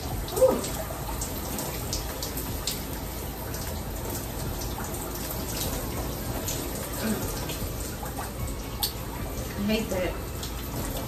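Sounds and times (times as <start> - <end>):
shower water splashing on tile: 0.0 - 11.0
water dripping: 0.0 - 11.0.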